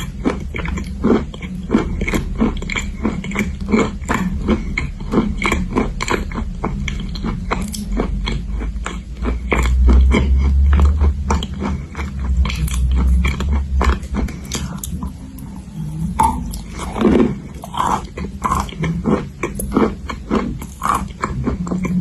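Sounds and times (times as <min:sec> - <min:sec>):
crunching and chewing: 0:00.0 - 0:22.0
low rumble: 0:00.0 - 0:22.0.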